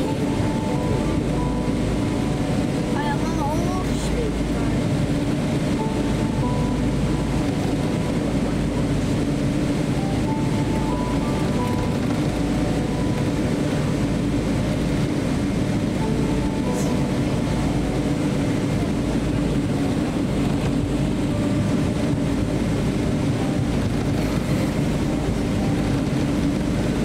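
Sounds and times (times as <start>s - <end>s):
airplane cabin rumble while taxiing: 0.0s - 27.0s.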